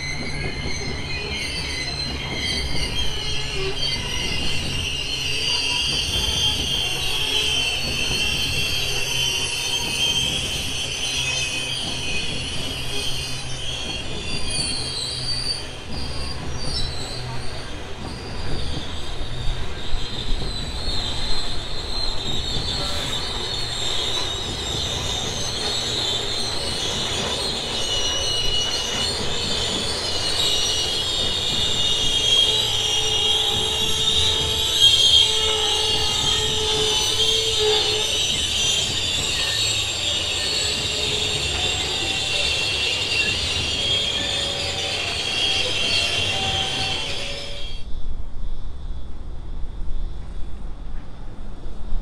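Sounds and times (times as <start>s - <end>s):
wheels squealing: 0.0s - 47.9s.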